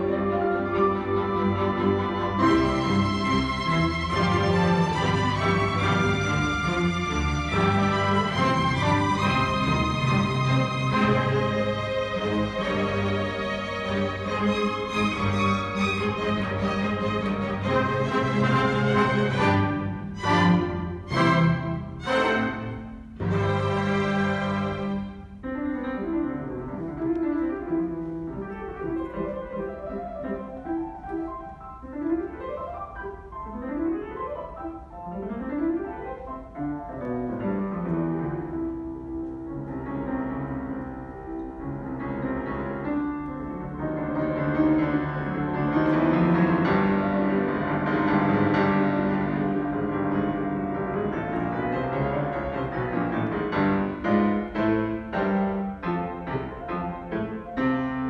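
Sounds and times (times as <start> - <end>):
symphony orchestra playing: 0.0 - 58.0.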